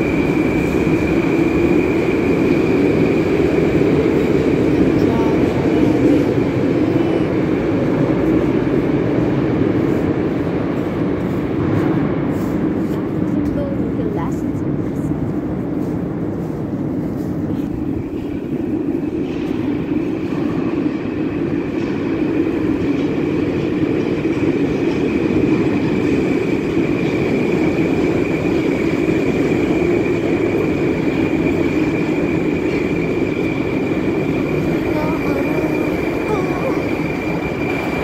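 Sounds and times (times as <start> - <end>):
high whine: 0.0 - 38.0
train rumbling: 0.0 - 38.0.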